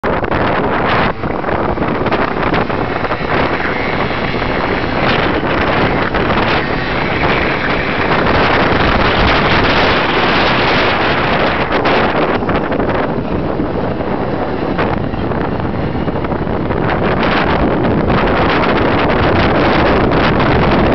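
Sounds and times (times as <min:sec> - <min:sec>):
road noise: 0:00.0 - 0:20.9
scooter engine: 0:00.0 - 0:20.9
wind buffeting microphone: 0:00.0 - 0:20.9.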